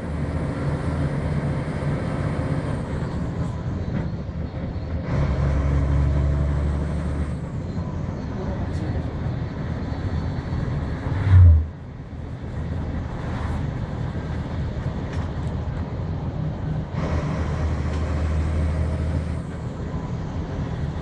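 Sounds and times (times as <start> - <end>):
diesel engine drone: 0.0 - 21.0
road noise: 0.0 - 21.0.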